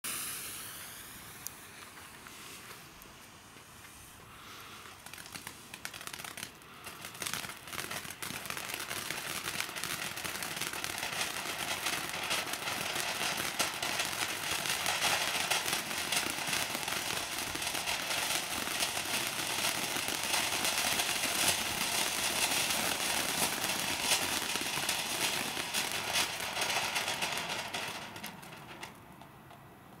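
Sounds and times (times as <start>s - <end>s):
firework fountain hissing and crackling: 0.0s - 30.0s.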